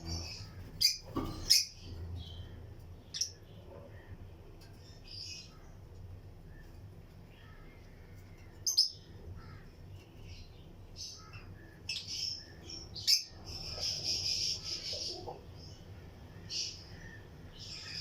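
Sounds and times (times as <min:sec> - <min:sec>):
lovebirds chattering: 0:00.0 - 0:05.8, 0:06.4 - 0:18.0
lovebirds chirping: 0:00.0 - 0:05.8, 0:06.4 - 0:18.0.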